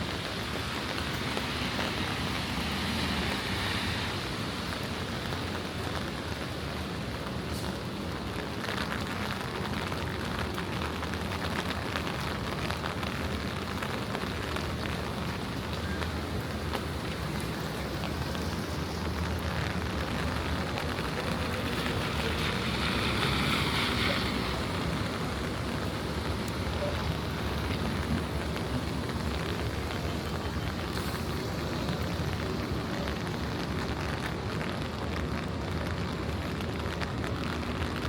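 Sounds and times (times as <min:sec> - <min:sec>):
distant traffic rumble: 0:00.0 - 0:38.0
rain on wet pavement: 0:00.0 - 0:38.0.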